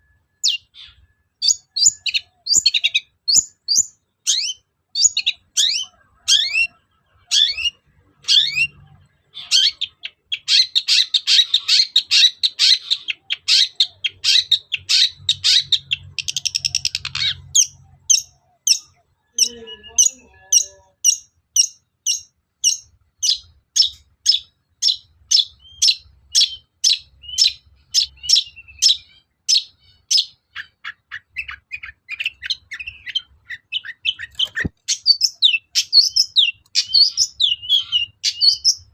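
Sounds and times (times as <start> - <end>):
shrike singing: 0.0 - 38.9.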